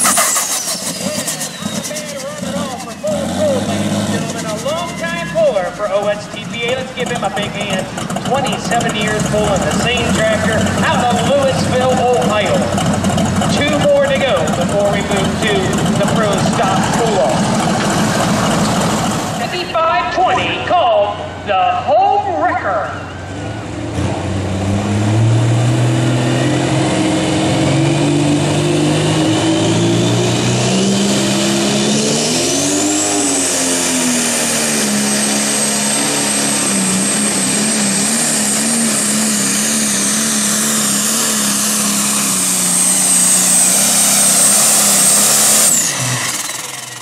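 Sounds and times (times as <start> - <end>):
diesel tractor engine at full throttle: 0.0 - 47.0
turbocharger whine: 0.0 - 47.0.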